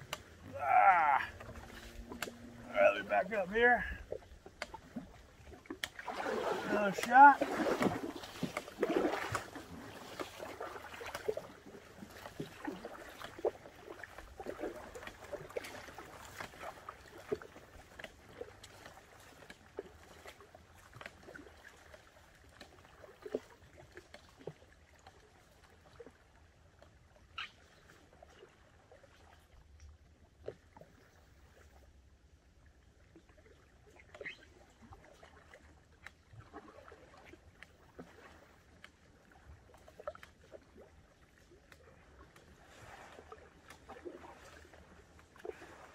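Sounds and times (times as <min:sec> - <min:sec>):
paddle splashing in water: 0:00.0 - 0:45.9.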